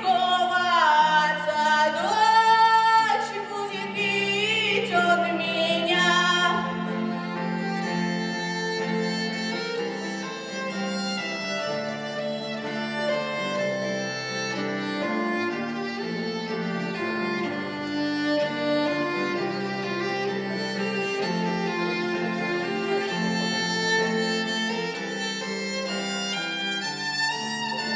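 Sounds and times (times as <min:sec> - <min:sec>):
instrumental backing music: 0:04.0 - 0:27.9.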